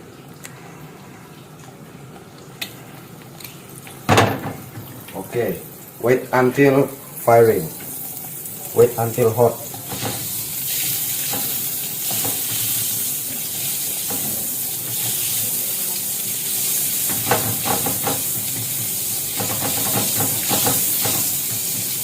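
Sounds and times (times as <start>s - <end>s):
margarine sizzling in a frying pan: 3.9s - 22.0s.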